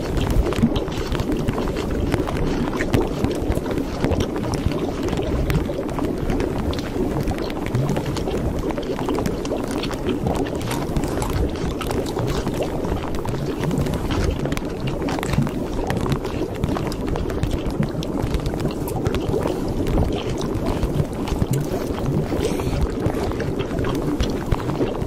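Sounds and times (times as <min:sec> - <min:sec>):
low rumbling noise: 0:00.0 - 0:25.0
short crackles and clicks: 0:00.0 - 0:25.0.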